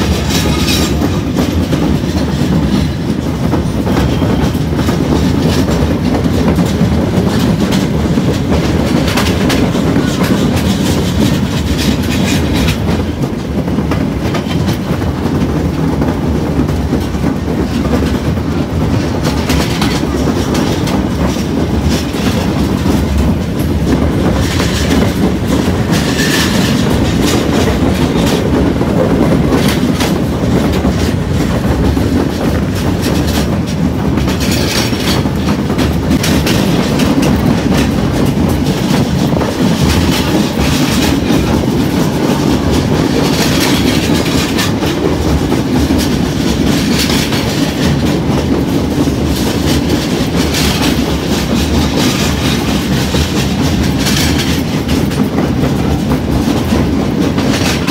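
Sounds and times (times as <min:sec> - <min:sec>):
train rumble: 0:00.0 - 0:57.9
wheels clattering over rail joints: 0:00.0 - 0:57.9.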